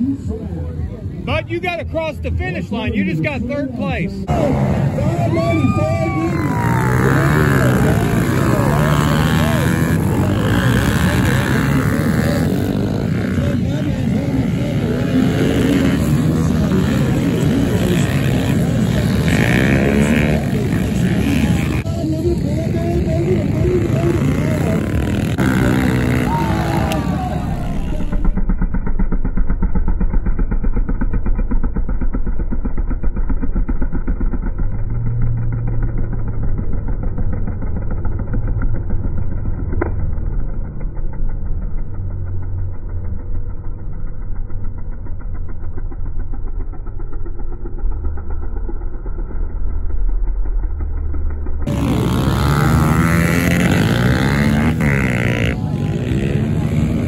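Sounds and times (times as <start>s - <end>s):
muffled pit bike engines revving: 0.0s - 57.0s.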